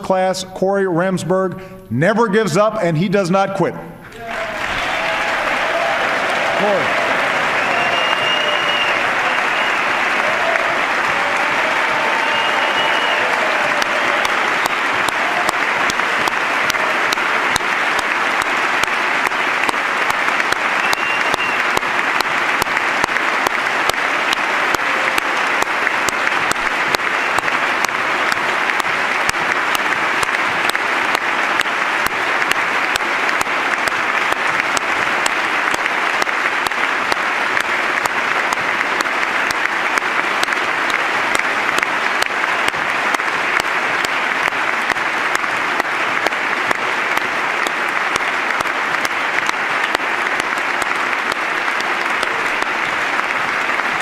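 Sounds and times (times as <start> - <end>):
audience applause: 4.1 - 54.0.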